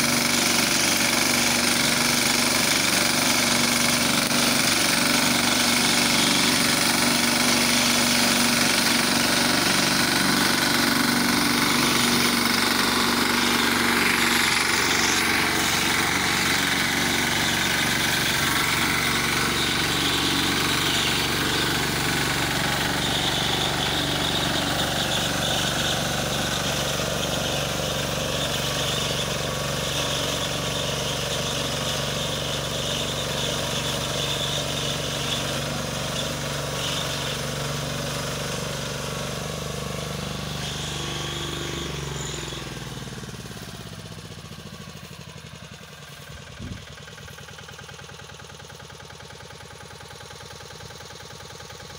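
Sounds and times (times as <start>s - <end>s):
reaper binder engine running: 0.0s - 51.9s.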